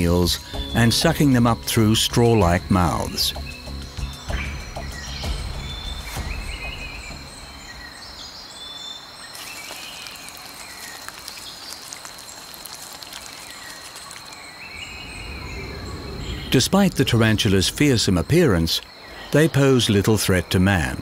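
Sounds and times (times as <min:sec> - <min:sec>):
short chirping calls: 0:00.4 - 0:19.6.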